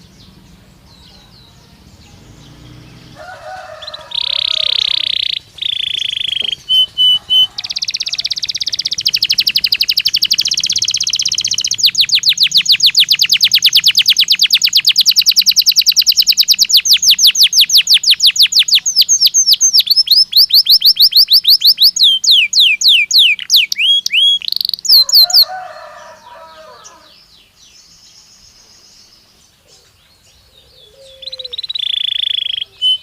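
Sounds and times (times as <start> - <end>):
canary singing: 0.0 - 33.0.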